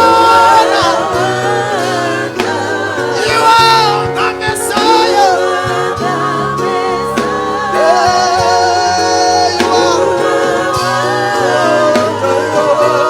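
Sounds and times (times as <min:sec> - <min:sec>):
band playing chords and drums: 0:00.0 - 0:13.0
people singing: 0:00.0 - 0:13.0.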